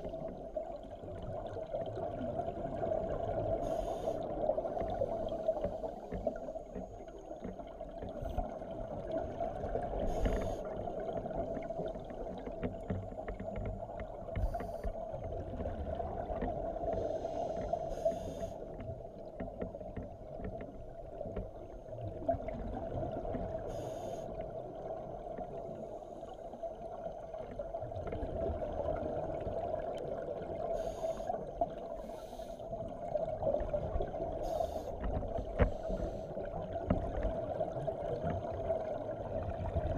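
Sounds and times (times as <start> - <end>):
steady low underwater hum: 0.0 - 39.9.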